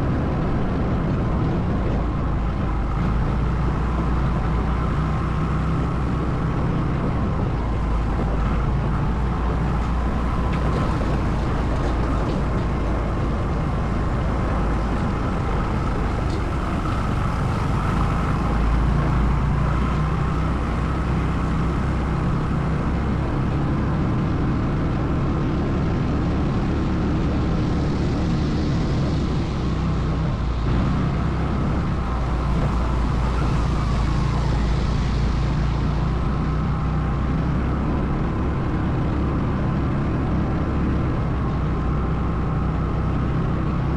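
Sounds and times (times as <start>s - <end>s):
atv engine drone: 0.0s - 43.9s
rushing noise: 0.0s - 43.9s.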